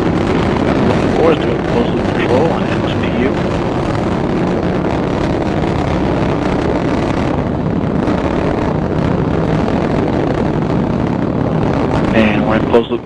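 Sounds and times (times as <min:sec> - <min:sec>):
rocket engine rumble: 0:00.0 - 0:13.0.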